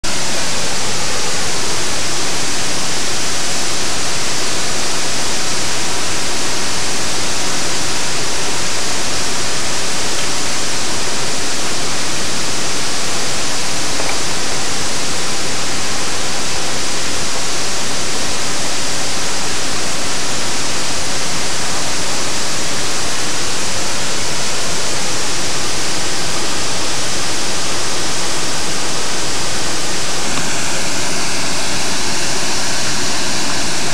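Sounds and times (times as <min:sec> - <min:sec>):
waterfall crashing: 0:00.0 - 0:33.9.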